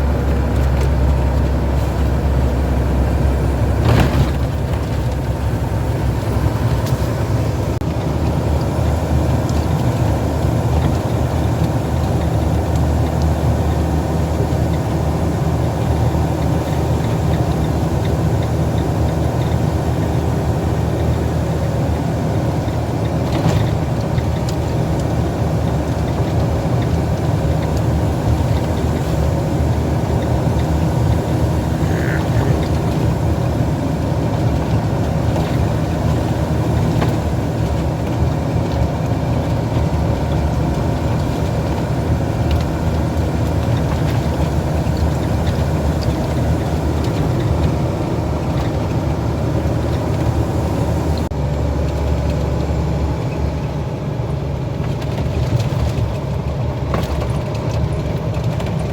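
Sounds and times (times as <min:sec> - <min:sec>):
heavy truck engine running: 0:00.0 - 0:58.9
road noise: 0:00.0 - 0:58.9.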